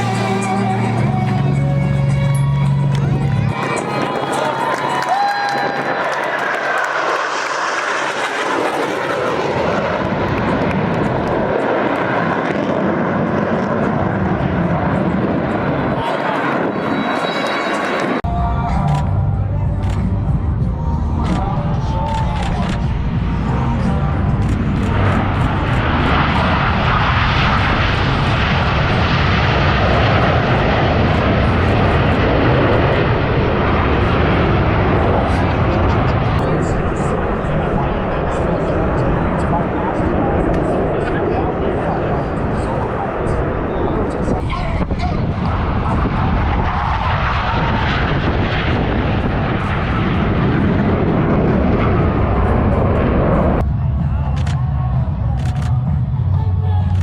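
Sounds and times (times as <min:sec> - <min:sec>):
jet aircraft passing overhead: 0:00.0 - 0:57.0.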